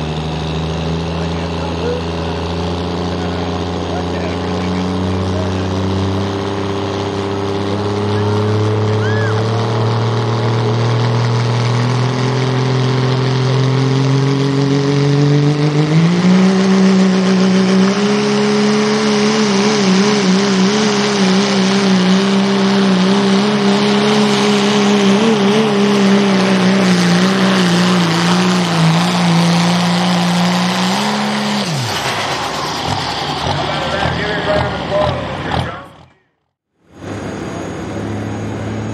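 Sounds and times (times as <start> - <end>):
diesel truck engine at full throttle: 0.0 - 38.9.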